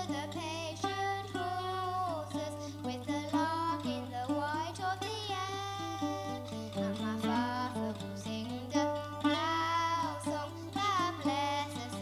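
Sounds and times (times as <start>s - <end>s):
girl singing folk melody: 0.0s - 12.0s
plucked acoustic guitar: 0.0s - 12.0s.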